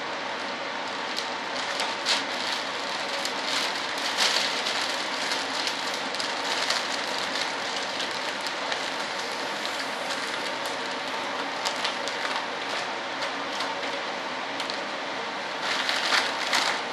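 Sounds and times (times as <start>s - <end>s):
plastic film crinkling: 0.8s - 14.0s, 15.6s - 16.9s.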